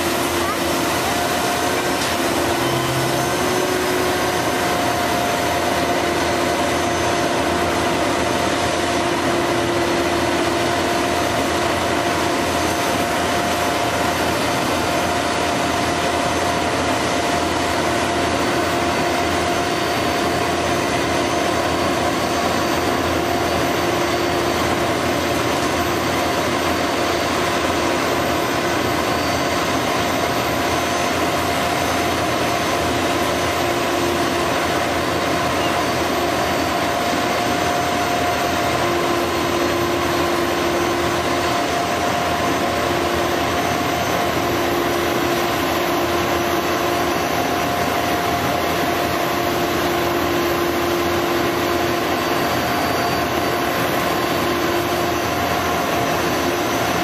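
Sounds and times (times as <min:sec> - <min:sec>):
diesel truck engine running: 0:00.0 - 0:57.0
steady whine: 0:00.0 - 0:57.0.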